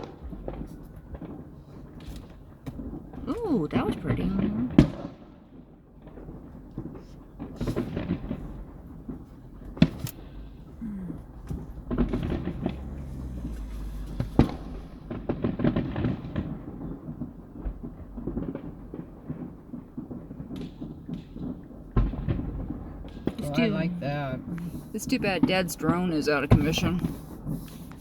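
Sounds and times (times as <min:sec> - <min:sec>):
low rumbling booms: 0:00.0 - 0:20.6, 0:21.3 - 0:27.6
distant fireworks bangs: 0:00.0 - 0:28.0
firework cracks: 0:00.0 - 0:28.0.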